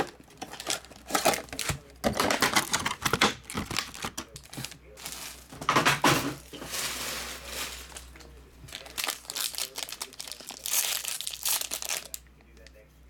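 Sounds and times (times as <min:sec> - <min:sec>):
foil wrapper crinkling: 0:00.0 - 0:12.7.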